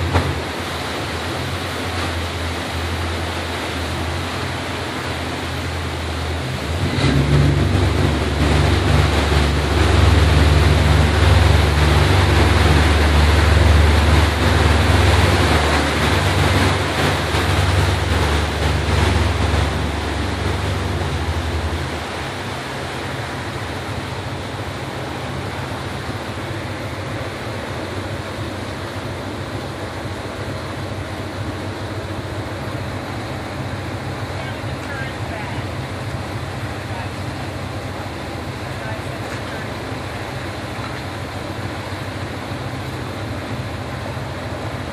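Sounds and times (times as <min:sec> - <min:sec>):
boat engine running: 0:00.0 - 0:44.9
water rushing from wake: 0:00.0 - 0:44.9.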